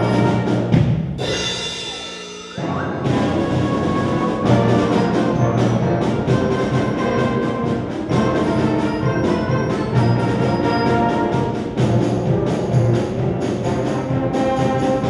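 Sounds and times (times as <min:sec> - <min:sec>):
wind band playing: 0:00.0 - 0:01.9, 0:02.6 - 0:15.0
percussion accents: 0:00.0 - 0:15.0.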